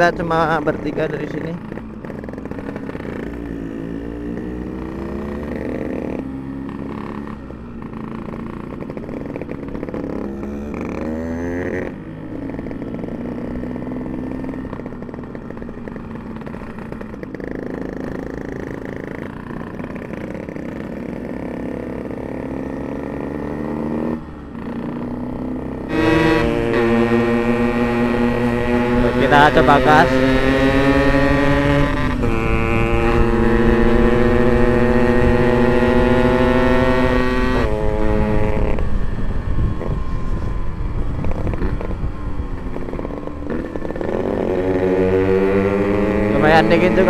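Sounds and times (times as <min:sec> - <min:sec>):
two-stroke motorcycle engine buzzing: 0:00.0 - 0:47.0.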